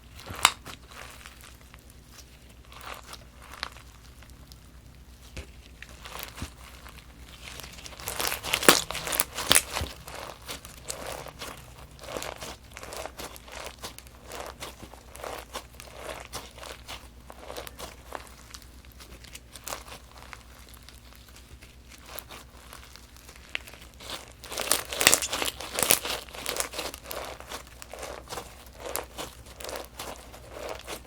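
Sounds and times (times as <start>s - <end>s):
crunchy slime crackling: 0.0s - 31.0s.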